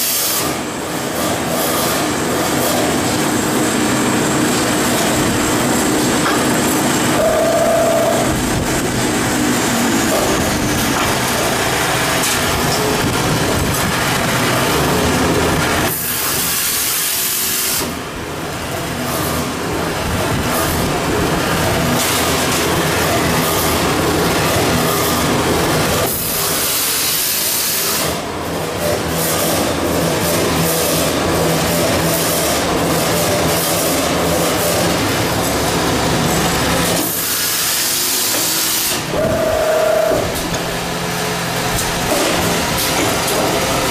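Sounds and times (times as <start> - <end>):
band saw running with hiss: 0.0 - 43.9
machinery humming: 0.0 - 43.9
steady machine whine: 0.0 - 43.9.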